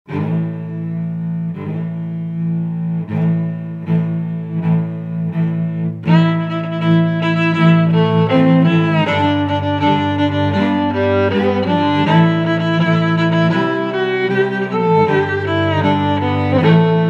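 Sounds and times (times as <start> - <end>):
string music with sustained notes: 0.1 - 17.0.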